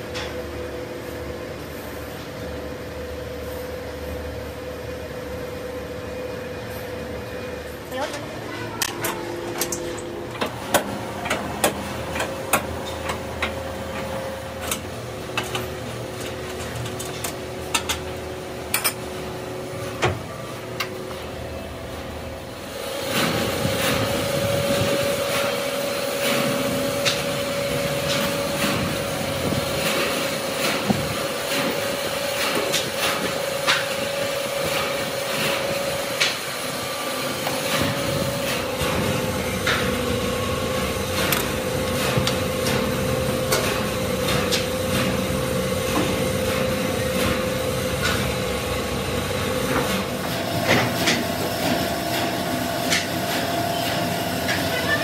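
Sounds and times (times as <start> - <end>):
workshop machinery humming: 0.0 - 55.0.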